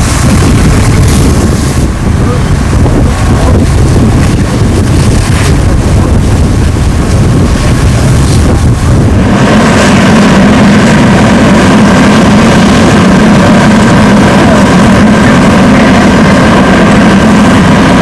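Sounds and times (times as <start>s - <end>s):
heavy engine running: 0.0s - 18.0s.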